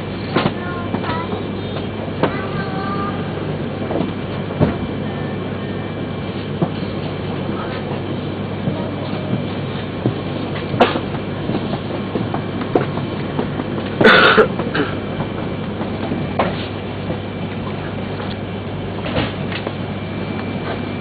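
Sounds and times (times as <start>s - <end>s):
train carriage hum and hiss: 0.0s - 21.0s.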